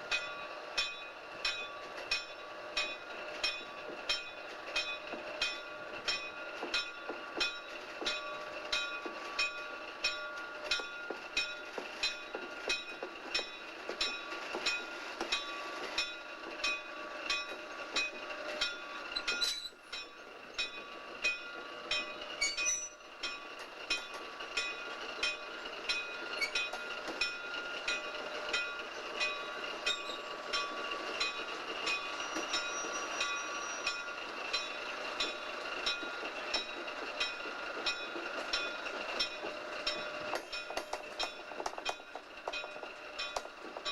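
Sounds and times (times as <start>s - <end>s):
train wheels clicking over rail joints: 0.0s - 43.9s.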